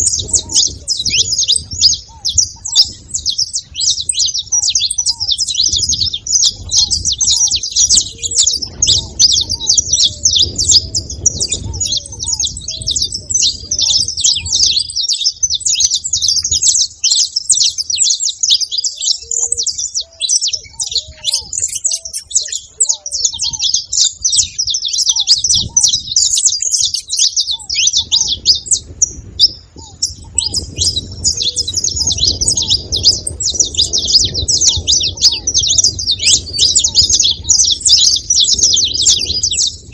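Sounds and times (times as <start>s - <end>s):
finches chirping and twittering: 0.0s - 39.9s.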